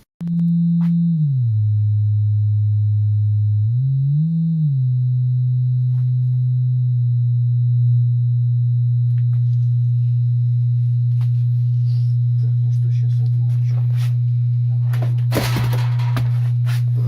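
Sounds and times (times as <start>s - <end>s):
low bass sine tone: 0.0s - 17.0s.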